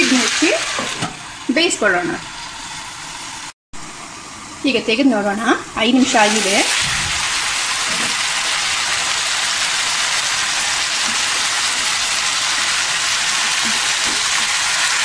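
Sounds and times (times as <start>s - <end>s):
chicken sizzling in hot oil: 0.0s - 4.8s, 5.8s - 15.0s.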